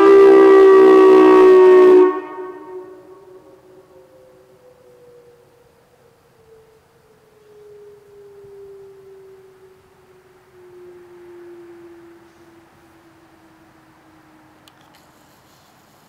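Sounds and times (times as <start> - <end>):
electronic siren gliding down: 0.0 - 15.4.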